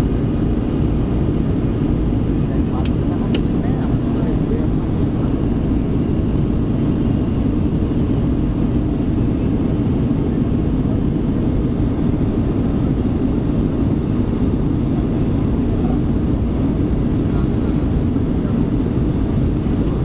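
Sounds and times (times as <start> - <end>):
jet engines rumbling in cabin: 0.0 - 20.0.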